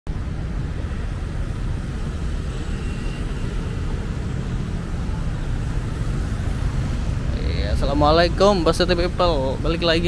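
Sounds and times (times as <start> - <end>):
low rumble of traffic: 0.1 - 10.0.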